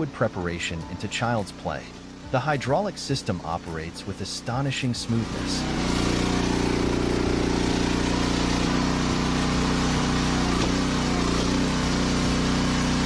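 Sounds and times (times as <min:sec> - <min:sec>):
log splitter engine running: 0:00.0 - 0:13.0.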